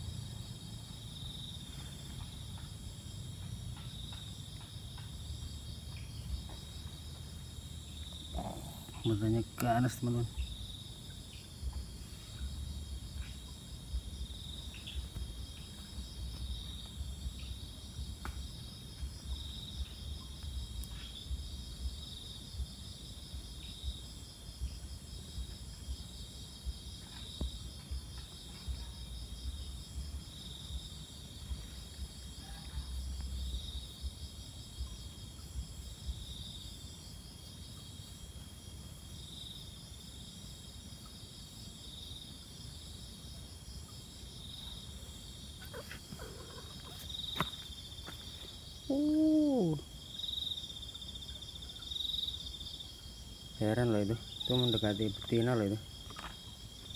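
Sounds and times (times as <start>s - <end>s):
insects trilling: 0.0s - 56.9s
loud cricket chirp: 0.0s - 56.9s.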